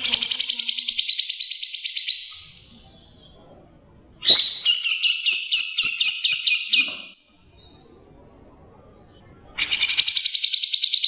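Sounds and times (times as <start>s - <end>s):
bird song trills: 0.0s - 3.4s, 4.2s - 8.0s, 9.0s - 11.0s.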